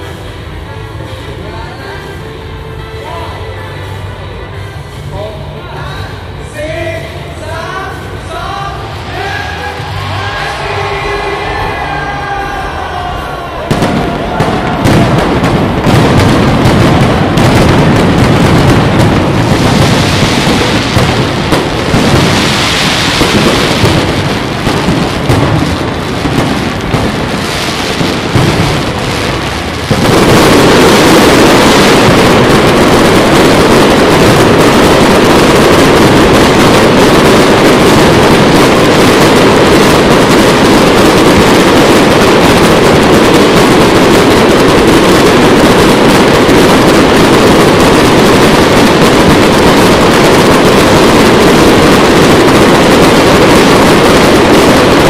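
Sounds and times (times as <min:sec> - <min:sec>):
continuous fireworks barrage: 0:00.0 - 0:55.0
fireworks bangs: 0:08.0 - 0:55.0.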